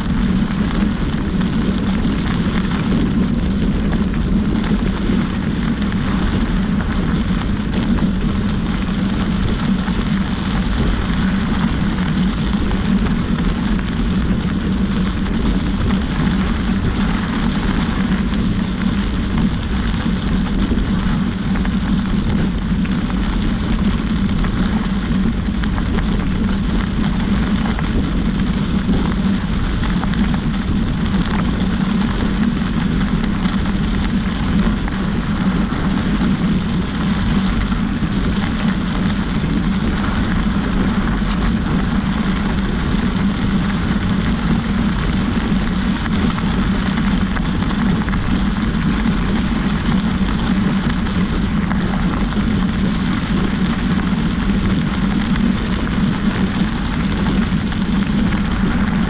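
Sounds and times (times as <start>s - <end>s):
wheels rolling on gravel: 0.0s - 59.0s
wind over microphone: 0.0s - 59.0s.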